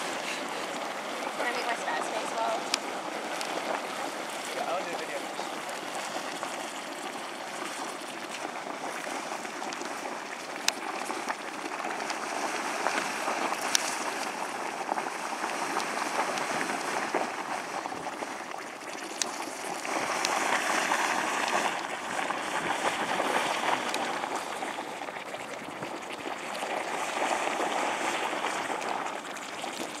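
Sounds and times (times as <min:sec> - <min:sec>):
geyser water rushing and bubbling: 0:00.0 - 0:30.0.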